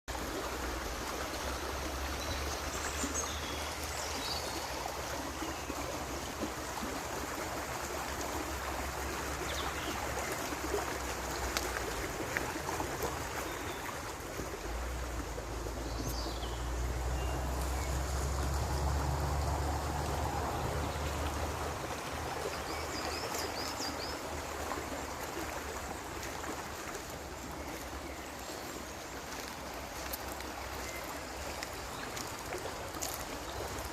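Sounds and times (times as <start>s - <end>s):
river water over stones: 0.1s - 33.9s.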